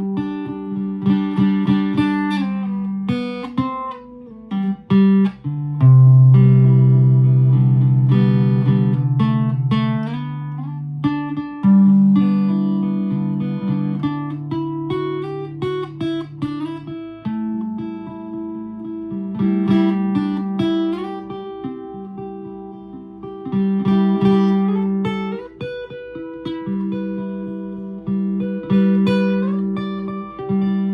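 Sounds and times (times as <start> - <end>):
guitar improvisation: 0.0 - 30.9.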